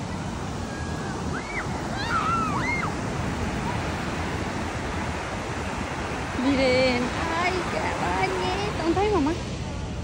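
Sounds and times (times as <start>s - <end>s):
surf breaking on beach: 0.0s - 10.0s.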